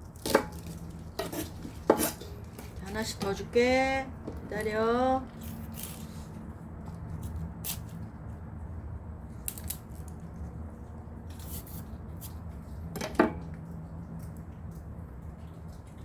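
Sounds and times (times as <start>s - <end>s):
dog crunching cabbage: 0.0s - 3.4s, 5.2s - 16.0s.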